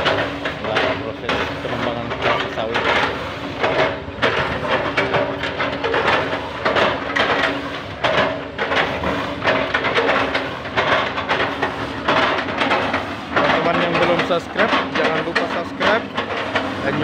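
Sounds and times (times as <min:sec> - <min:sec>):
excavator engines under load: 0:00.0 - 0:17.0.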